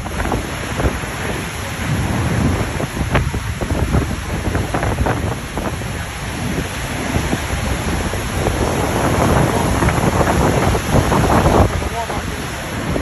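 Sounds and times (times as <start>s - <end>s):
heavy rain: 0.0s - 13.0s
low rumble: 0.0s - 13.0s
wind buffeting microphone: 0.0s - 13.0s.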